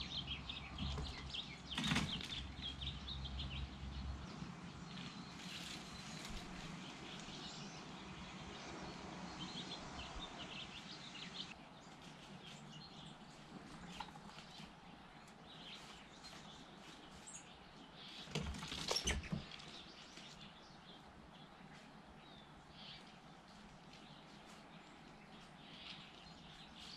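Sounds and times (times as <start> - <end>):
outdoor background noise: 0.0 - 26.9
small birds chirping: 0.0 - 26.9.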